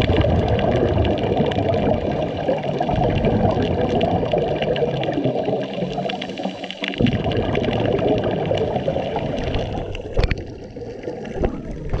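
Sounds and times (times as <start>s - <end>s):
underwater bubbles gurgling: 0.0s - 12.0s.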